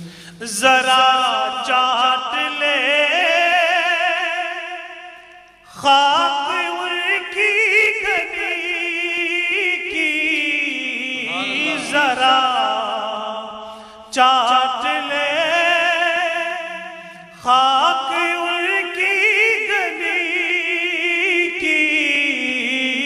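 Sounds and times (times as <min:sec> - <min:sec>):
man singing: 0:00.0 - 0:23.0.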